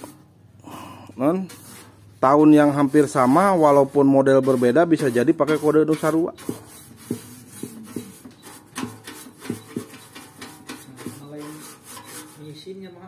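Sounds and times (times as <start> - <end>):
paintbrush scrubbing metal: 1.2 - 12.8.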